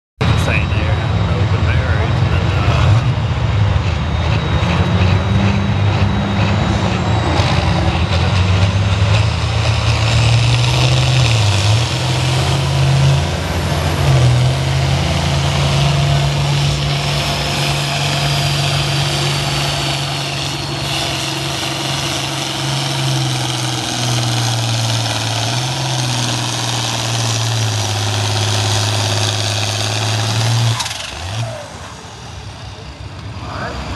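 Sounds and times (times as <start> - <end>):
tractor engine under load: 0.2 - 33.9.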